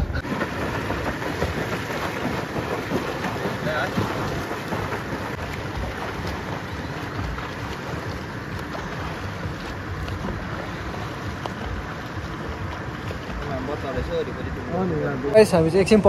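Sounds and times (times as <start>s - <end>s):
arm strokes splashing in water: 0.2s - 14.1s.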